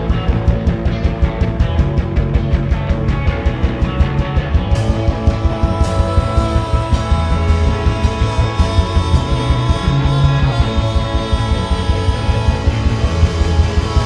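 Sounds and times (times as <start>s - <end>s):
rock band playing live: 0.0s - 14.0s.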